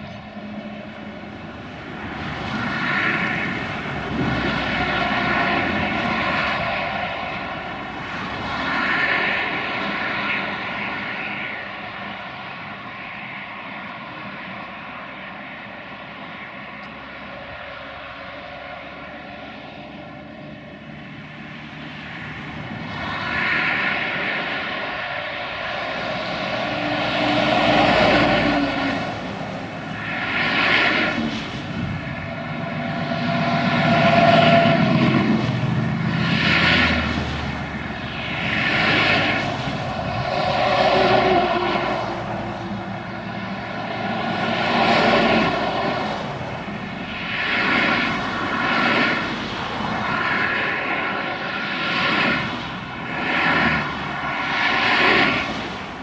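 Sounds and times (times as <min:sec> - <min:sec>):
steady engine drone: 0:00.0 - 0:56.0
vehicles passing on road: 0:00.0 - 0:56.0.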